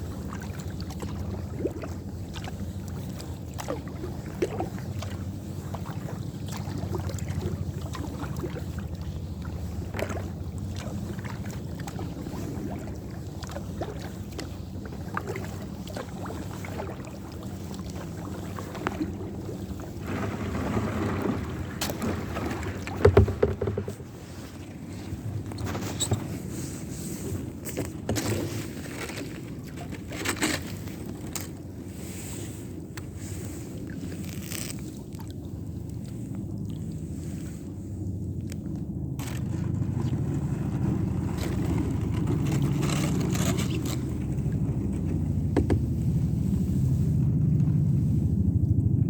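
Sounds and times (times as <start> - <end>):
wind on microphone: 0.0 - 28.8, 30.8 - 49.0
paddle splashing and dripping: 0.0 - 48.2
water lapping at hull: 0.0 - 49.0.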